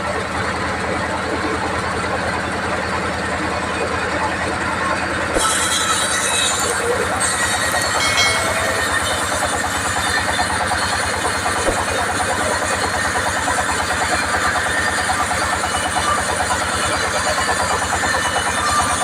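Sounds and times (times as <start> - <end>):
band sawmill running: 0.0 - 19.0.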